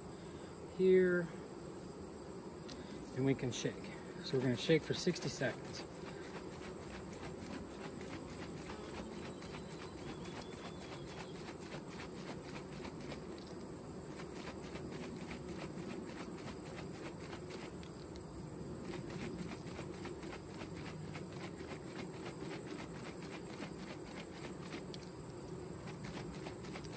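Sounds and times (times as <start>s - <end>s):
honey bees humming: 0.0s - 26.9s.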